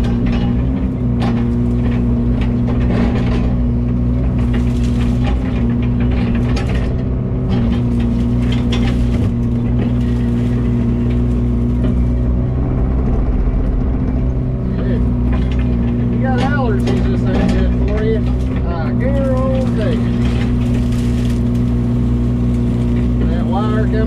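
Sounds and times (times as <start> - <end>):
clicking and rattling: 0.0 - 24.0
engine running steadily: 0.0 - 24.0.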